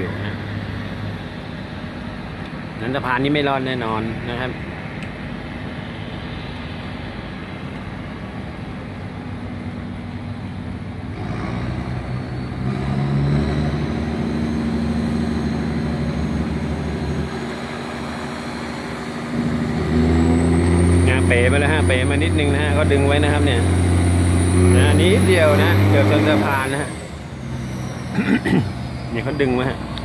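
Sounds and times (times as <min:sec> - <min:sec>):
boat diesel engines droning: 0:00.0 - 0:30.0.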